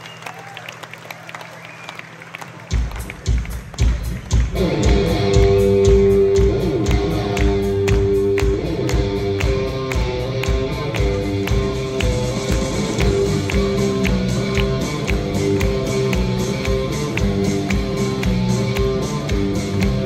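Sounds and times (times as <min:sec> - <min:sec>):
drums: 0:02.3 - 0:20.0
bass guitar: 0:02.7 - 0:20.0
electric guitars: 0:03.8 - 0:20.0.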